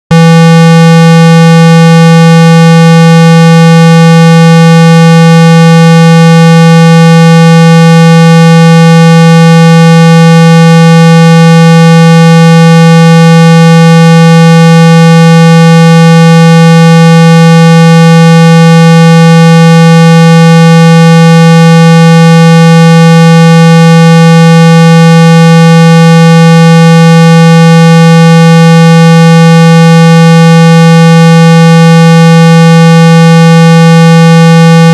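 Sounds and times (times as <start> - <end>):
loud buzzy electronic tone: 0.1 - 34.9.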